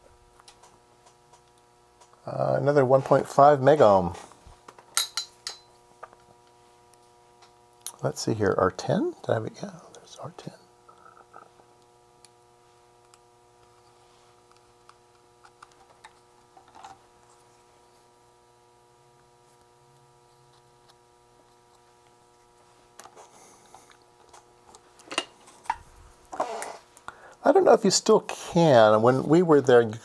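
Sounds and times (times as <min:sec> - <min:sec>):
faint electrical hum: 0:00.0 - 0:30.0.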